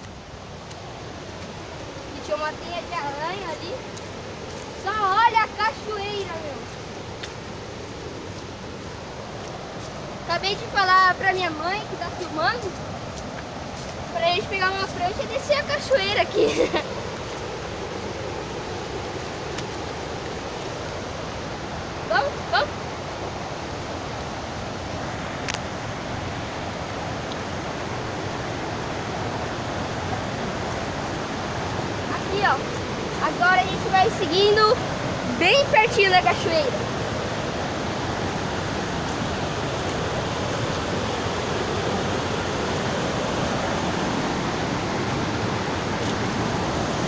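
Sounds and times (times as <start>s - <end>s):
waterfall and river rushing: 0.0s - 47.0s.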